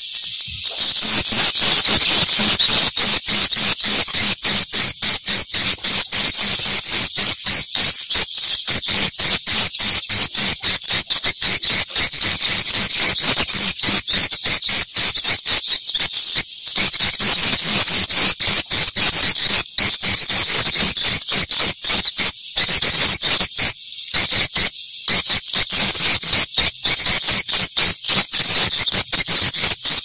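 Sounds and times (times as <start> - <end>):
swiftlets twittering: 0.0 - 30.0.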